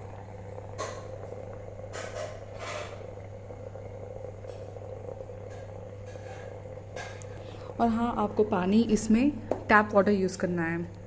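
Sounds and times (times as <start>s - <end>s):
steam vaporiser humming: 0.0s - 11.0s.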